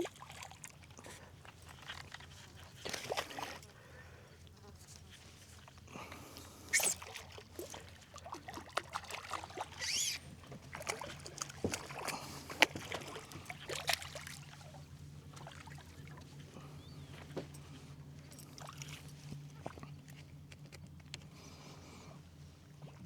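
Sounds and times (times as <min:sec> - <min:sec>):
water splashing and sloshing: 0:00.0 - 0:03.9, 0:05.1 - 0:21.2
low steady hum: 0:00.0 - 0:23.0.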